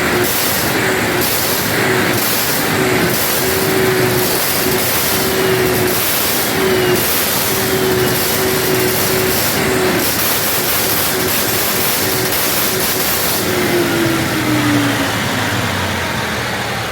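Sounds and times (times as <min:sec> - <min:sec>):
generator engine running: 0:00.0 - 0:16.9.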